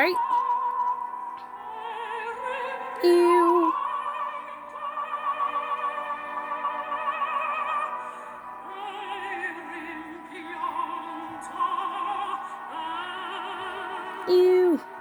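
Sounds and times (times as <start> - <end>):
operatic singing: 0.0 - 15.0.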